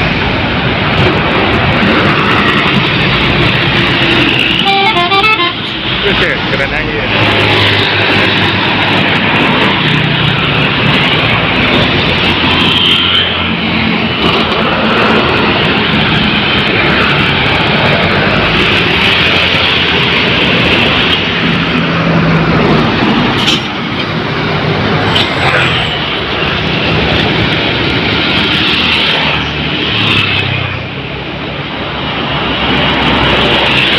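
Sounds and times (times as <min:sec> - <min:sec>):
bus and truck engines: 0:00.0 - 0:33.9
tyre and road noise: 0:00.0 - 0:33.9.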